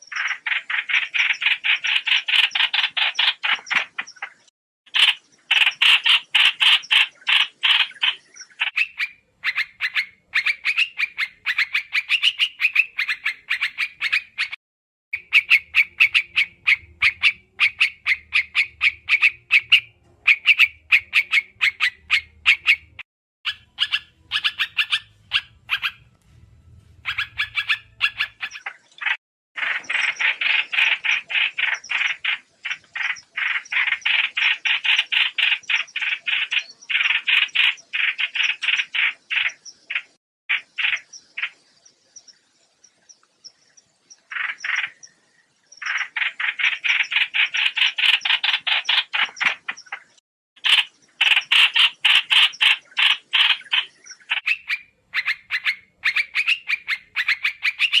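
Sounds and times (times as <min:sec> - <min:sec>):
bird chirping rapidly: 0:00.0 - 0:14.6, 0:15.2 - 0:58.0.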